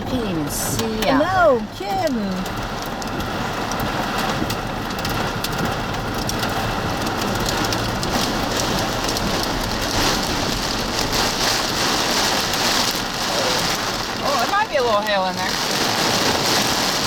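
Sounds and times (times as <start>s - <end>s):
heavy rain on vehicle roof: 0.0s - 17.0s.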